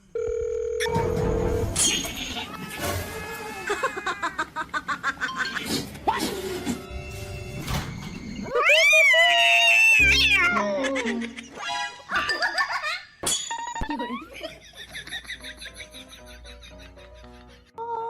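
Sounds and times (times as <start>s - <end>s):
background music: 0.8s - 12.7s, 14.1s - 17.9s.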